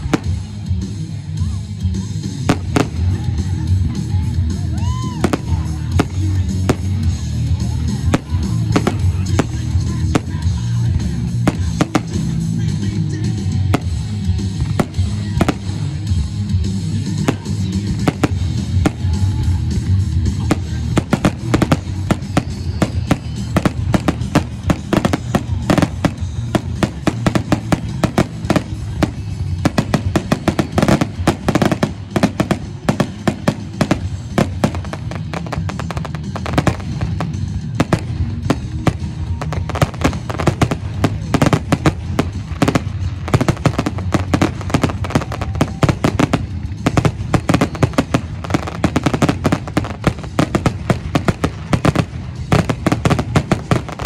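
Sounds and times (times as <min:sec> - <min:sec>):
fireworks bangs and crackling: 0:00.0 - 0:54.0
music: 0:00.0 - 0:54.0.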